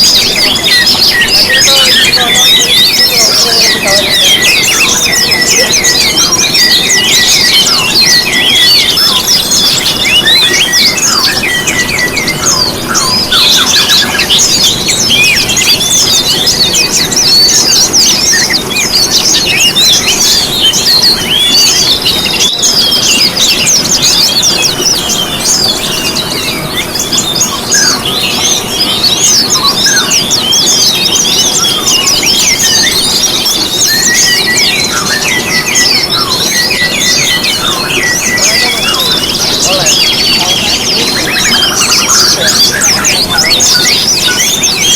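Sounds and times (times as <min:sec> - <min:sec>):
songbirds twittering: 0:00.0 - 0:44.9.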